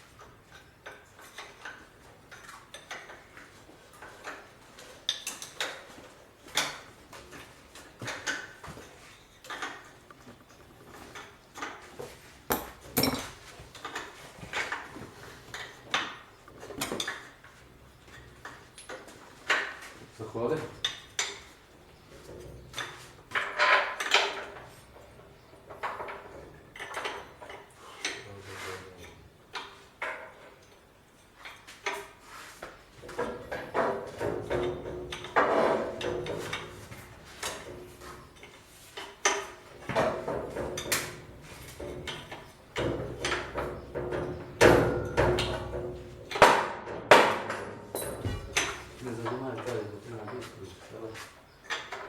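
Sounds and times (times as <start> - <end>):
metal clanks and knocks: 4.0 - 32.2, 33.0 - 52.0.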